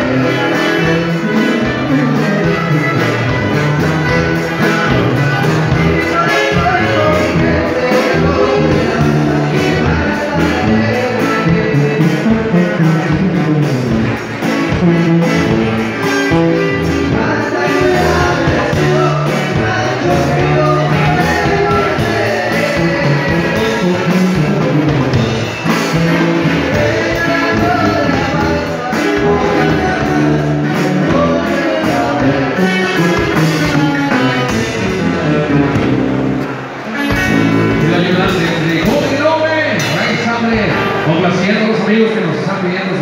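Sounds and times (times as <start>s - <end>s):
bass and drum beat: 0.0s - 41.9s
latin dance music with singing: 0.0s - 43.0s.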